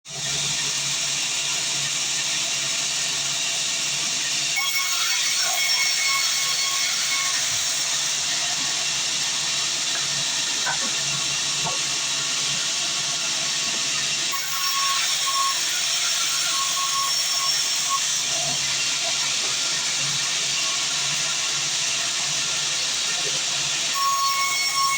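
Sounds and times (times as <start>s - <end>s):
band saw cutting through log: 0.1s - 24.9s.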